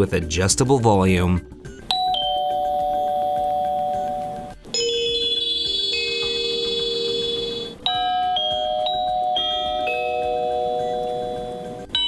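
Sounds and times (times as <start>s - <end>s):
bell-like chime tune: 1.9s - 12.0s
two-note door chime: 1.9s - 12.0s.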